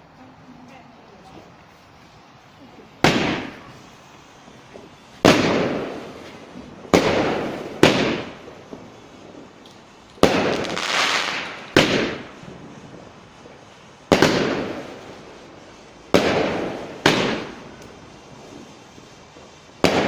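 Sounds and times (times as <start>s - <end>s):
fireworks bangs: 0.4s - 20.0s.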